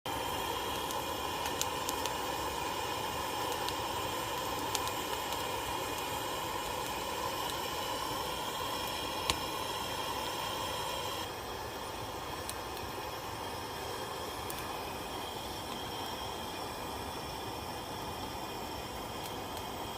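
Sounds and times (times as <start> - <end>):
fire crackles: 0.1 - 19.9
fish sizzling on a grill: 0.1 - 19.9.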